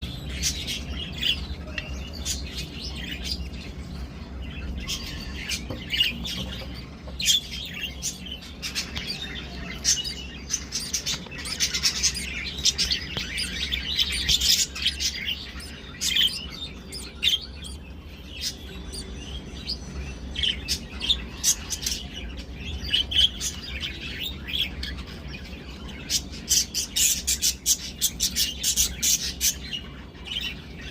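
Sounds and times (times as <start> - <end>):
budgerigars chirping: 0.0 - 30.9
steady low hum: 0.0 - 30.9.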